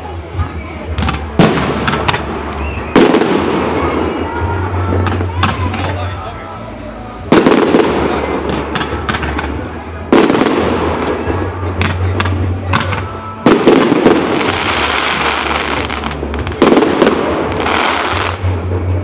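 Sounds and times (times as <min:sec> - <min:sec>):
small fireworks pops: 0:00.9 - 0:06.2, 0:07.3 - 0:19.0
fireworks bangs: 0:00.9 - 0:06.4, 0:07.2 - 0:19.0.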